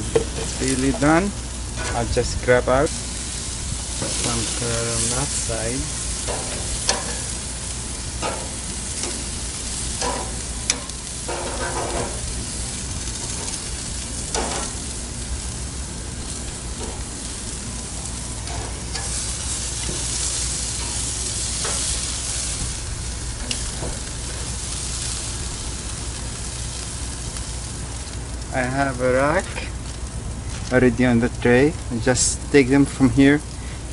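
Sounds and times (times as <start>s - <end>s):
meat sizzling on a grill: 0.0s - 33.9s.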